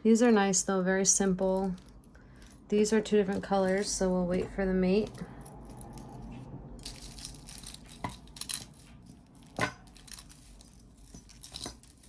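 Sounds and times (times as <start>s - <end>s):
jewelry clicking and clinking: 0.0s - 12.0s
soft rustling: 0.0s - 12.0s.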